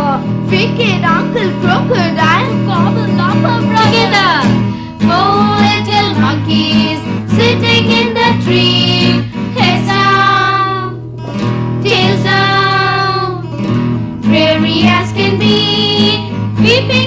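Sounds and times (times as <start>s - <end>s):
instrumental accompaniment: 0.0s - 17.0s
children singing: 1.2s - 11.1s, 11.8s - 13.6s, 14.2s - 17.0s.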